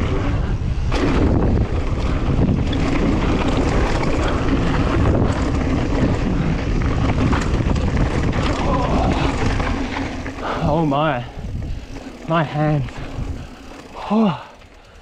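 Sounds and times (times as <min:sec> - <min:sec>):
wind rushing over microphone: 0:00.0 - 0:14.0
bike rattling over rough trail: 0:00.0 - 0:15.0.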